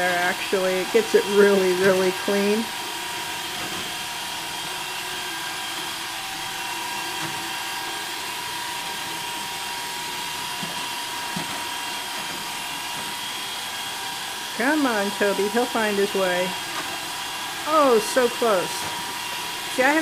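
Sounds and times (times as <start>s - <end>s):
robot vacuum whirring and whining: 0.0s - 20.0s.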